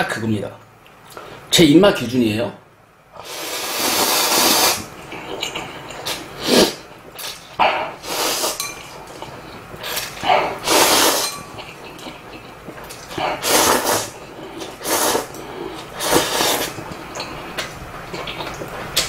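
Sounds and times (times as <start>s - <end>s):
person slurping noodles: 3.2s - 19.0s.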